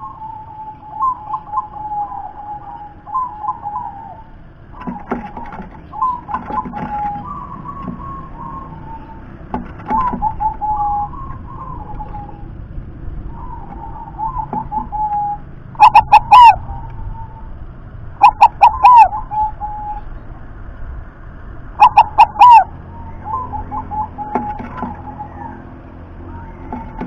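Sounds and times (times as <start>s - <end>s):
dove cooing: 0.0s - 17.6s, 18.2s - 20.2s, 21.7s - 27.0s.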